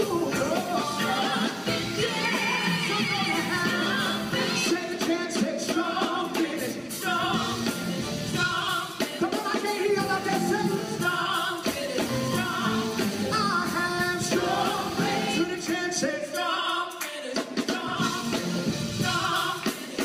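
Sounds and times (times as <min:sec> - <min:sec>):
live gospel band playing: 0:00.0 - 0:20.0.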